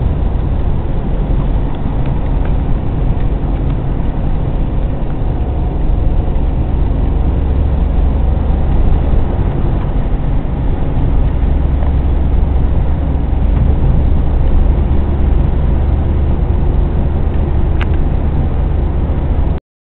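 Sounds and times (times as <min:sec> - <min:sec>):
car engine running: 0:00.0 - 0:19.6.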